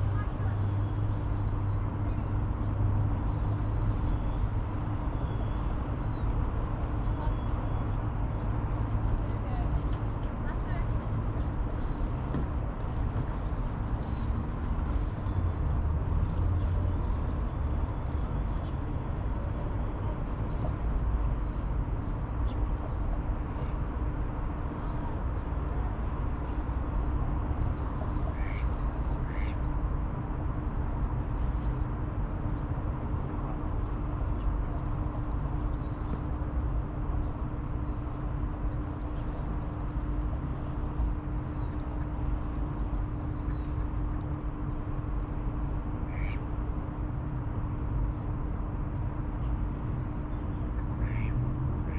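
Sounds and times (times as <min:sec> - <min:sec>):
low outdoor rumble: 0:00.0 - 0:51.9.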